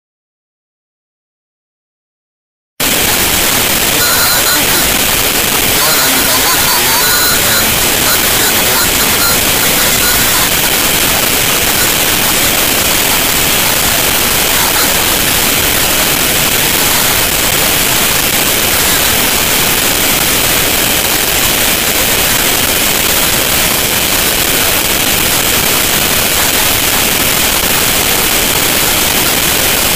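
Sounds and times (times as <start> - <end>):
loud steady hiss: 2.8 - 29.9.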